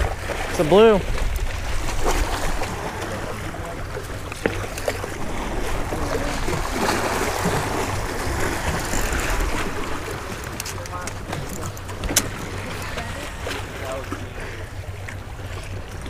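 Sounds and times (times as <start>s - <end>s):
waves splashing against rocks: 0.0s - 16.0s
wind buffeting microphone: 0.0s - 16.0s.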